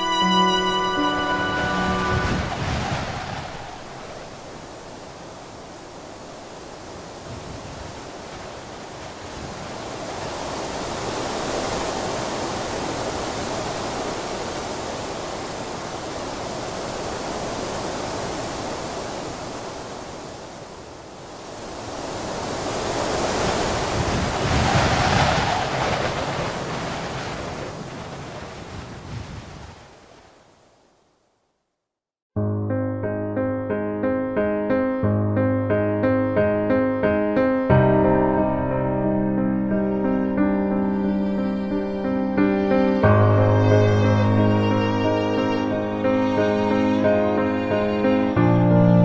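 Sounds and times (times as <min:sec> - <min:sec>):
waves washing: 0:00.0 - 0:30.8, 0:38.0 - 0:49.0
wind: 0:00.0 - 0:31.6, 0:33.8 - 0:49.0.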